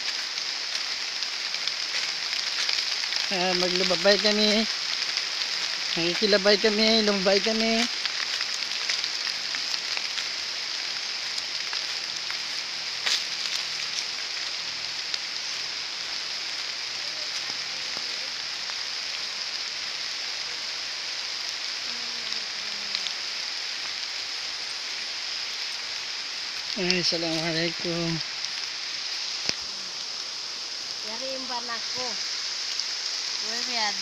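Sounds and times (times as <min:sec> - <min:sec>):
high-pitched forest hiss: 0:00.0 - 0:34.0.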